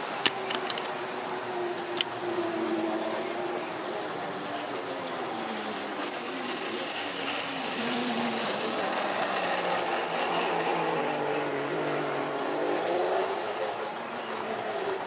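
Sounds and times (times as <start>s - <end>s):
model train motor humming: 0.0s - 15.0s
model train wheels rolling on track: 0.0s - 15.0s.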